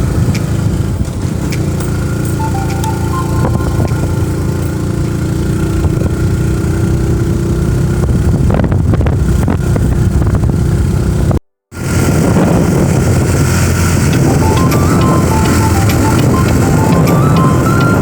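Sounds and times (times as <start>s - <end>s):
road noise: 0.0s - 18.0s
vehicle engine hum: 0.0s - 18.0s.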